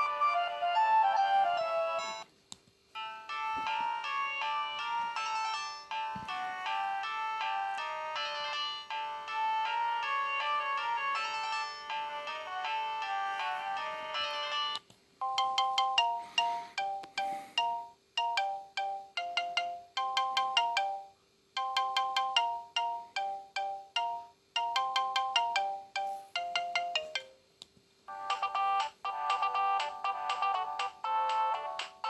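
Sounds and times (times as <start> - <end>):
beeping phone ringtone: 0.0 - 2.3, 3.0 - 27.4, 28.1 - 31.9
different ringtone: 0.0 - 2.3, 3.0 - 27.4, 28.1 - 32.0.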